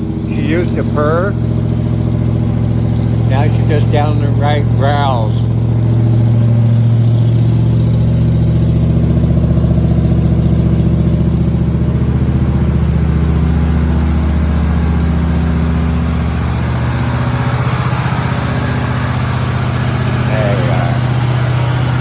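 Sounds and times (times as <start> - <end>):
car engine idling with deep growl: 0.0 - 22.0.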